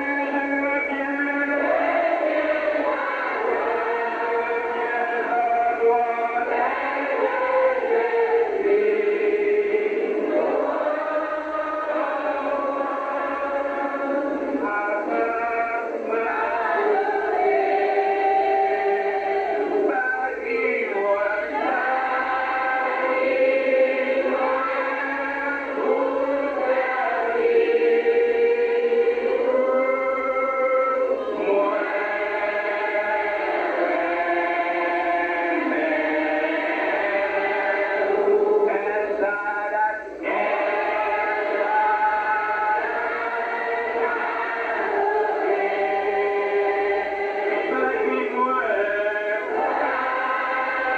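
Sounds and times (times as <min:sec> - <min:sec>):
group singing a hymn: 0:00.0 - 0:50.9.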